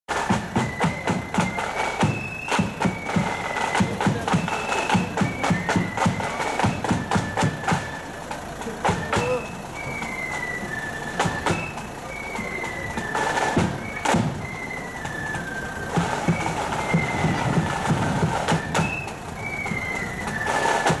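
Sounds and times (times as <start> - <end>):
snare drum strikes: 0.1 - 8.1, 8.8 - 21.0
flute melody: 0.1 - 21.0
bass drum beat: 0.2 - 8.0, 8.6 - 21.0.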